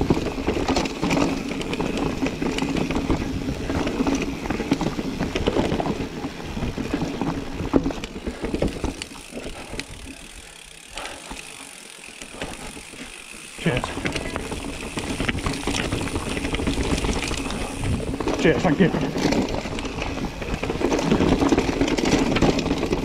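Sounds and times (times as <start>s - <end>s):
bike frame and chain rattling: 0.0s - 23.0s
tyres rumbling: 0.0s - 23.0s.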